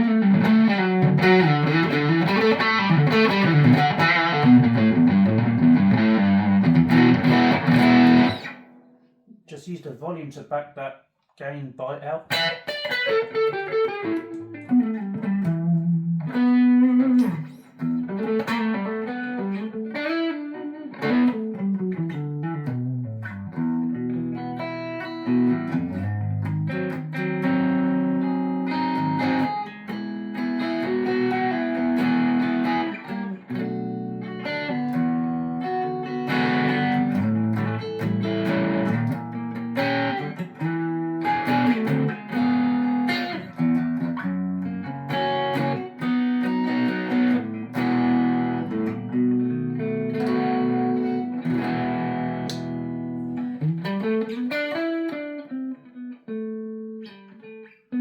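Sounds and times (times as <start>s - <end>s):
overdriven electric guitar: 0.0s - 9.0s, 12.3s - 58.0s.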